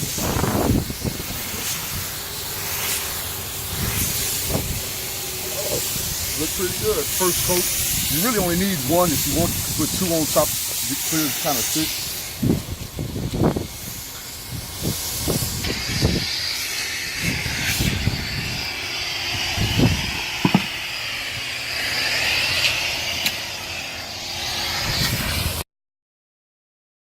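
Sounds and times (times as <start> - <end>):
spray gun hissing: 0.0 - 25.6.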